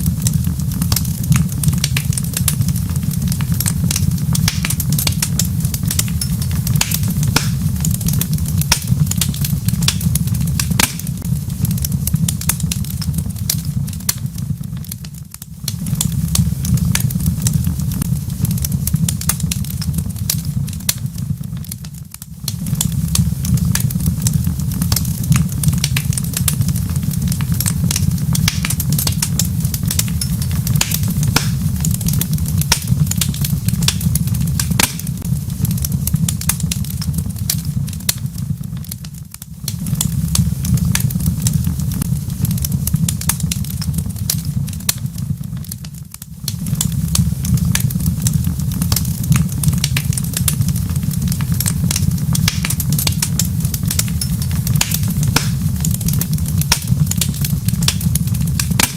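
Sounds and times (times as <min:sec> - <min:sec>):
fire popping and snapping: 0:00.0 - 0:58.9
steady low rumble: 0:00.0 - 0:58.9
wood fire crackling: 0:00.0 - 0:58.9.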